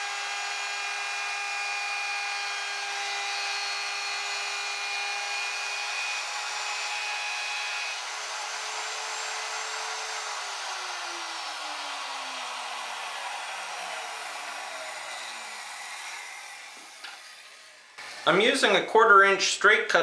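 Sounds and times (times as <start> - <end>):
power tool motor whine: 0.0 - 18.4.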